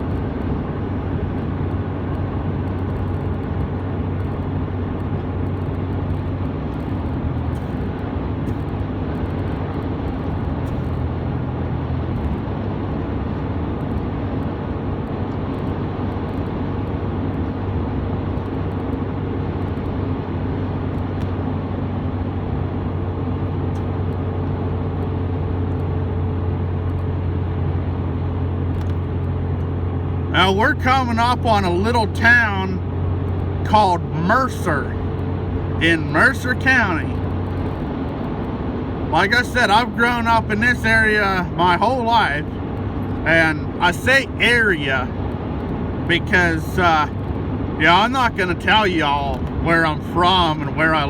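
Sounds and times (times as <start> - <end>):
truck engine hum: 0.0 - 51.0.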